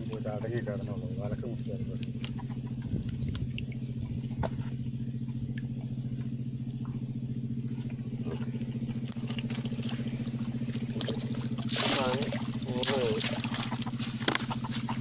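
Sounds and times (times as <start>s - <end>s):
engine running with fast throb: 0.0s - 15.0s.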